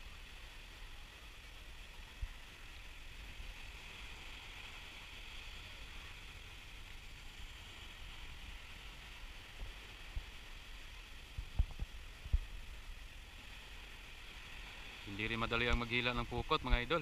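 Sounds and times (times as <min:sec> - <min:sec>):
small waves breaking: 0:00.0 - 0:17.0
wind rumbling on microphone: 0:00.0 - 0:17.0.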